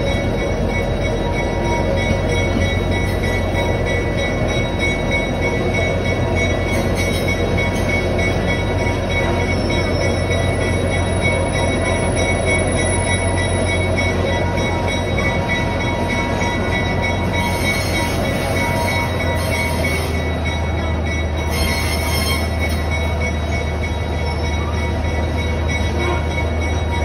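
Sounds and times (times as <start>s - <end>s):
train car rumbling on track: 0.0s - 27.0s.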